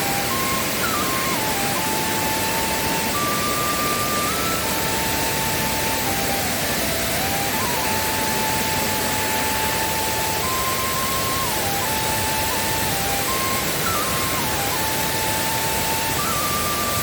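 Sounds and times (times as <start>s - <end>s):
thin slow melody: 0.0s - 17.0s
waterfall roaring: 0.0s - 17.0s.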